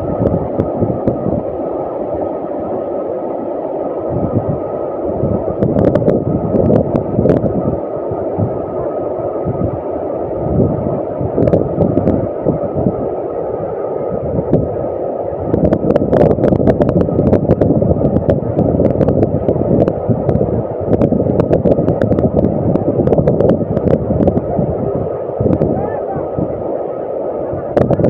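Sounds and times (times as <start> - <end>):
waterfall roaring: 0.0 - 28.0
wind buffeting microphone: 0.0 - 28.0.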